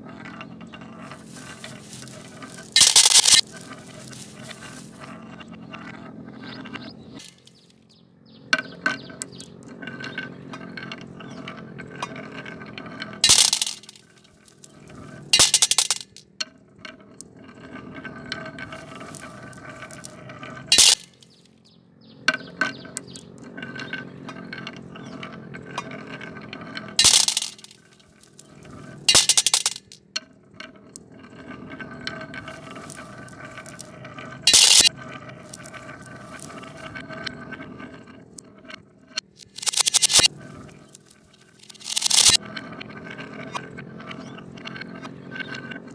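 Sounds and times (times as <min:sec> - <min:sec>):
marbles clacking on wood: 0:00.0 - 0:07.8, 0:08.4 - 0:21.6, 0:22.2 - 0:45.9
marbles rolling on wooden tracks: 0:00.0 - 0:45.9.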